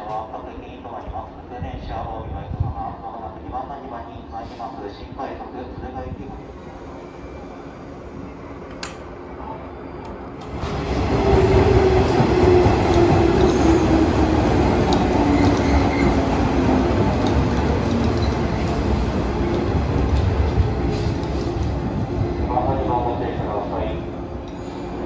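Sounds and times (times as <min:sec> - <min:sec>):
train rail running noise: 0:00.0 - 0:25.0.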